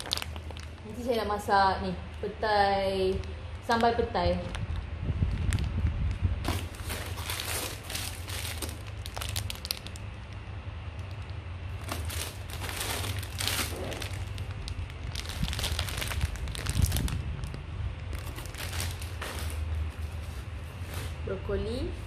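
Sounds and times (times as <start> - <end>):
plastic bags crinkling: 0.0 - 1.4, 2.9 - 21.2.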